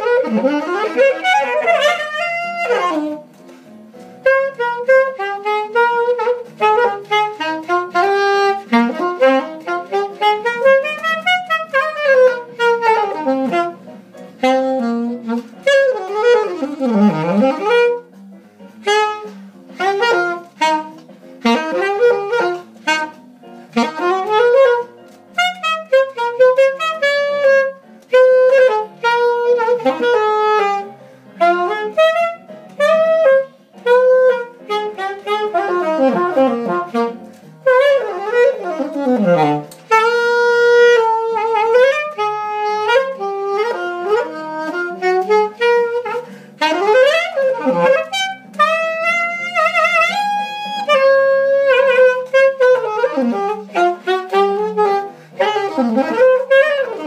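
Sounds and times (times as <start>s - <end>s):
alto saxophone improvising jazz: 0.0s - 57.0s.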